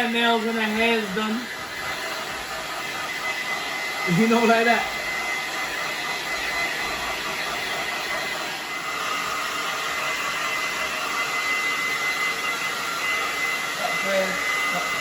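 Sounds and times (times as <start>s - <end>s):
hair dryer whining: 0.0s - 15.0s.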